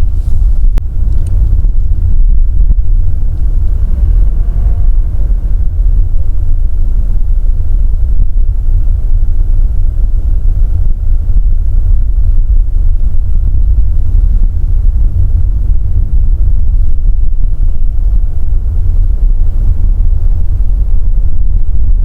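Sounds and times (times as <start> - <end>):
car driving slowly with low rumble: 0.0 - 22.0.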